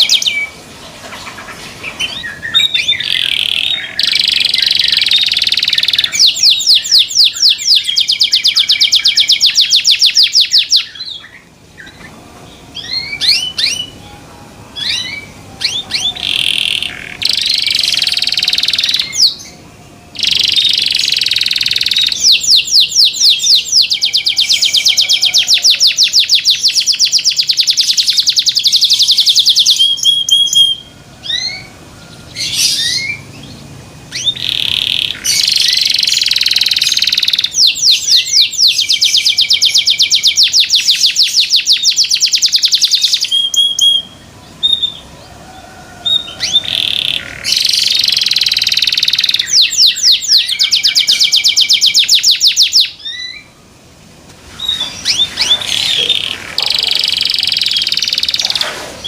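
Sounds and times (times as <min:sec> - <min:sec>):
canary singing trills: 0:00.0 - 0:53.6, 0:54.4 - 0:59.0.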